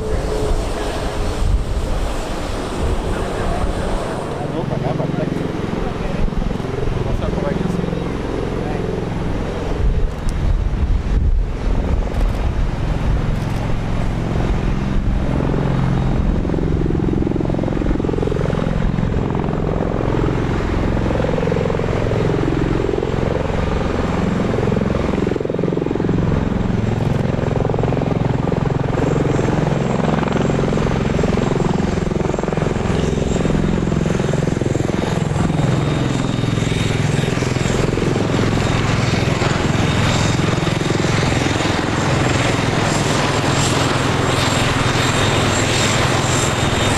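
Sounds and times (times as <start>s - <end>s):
tiltrotor aircraft rotor beat: 0.0s - 46.9s
turboshaft engine drone: 0.0s - 46.9s.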